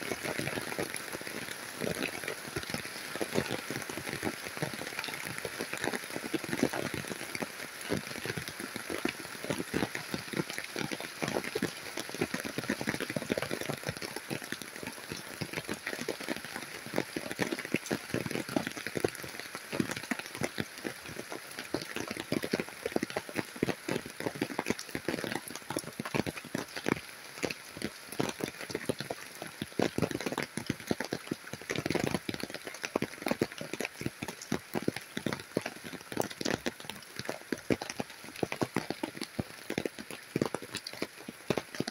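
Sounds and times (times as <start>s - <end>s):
heavy rain on leaves: 0.0s - 41.9s.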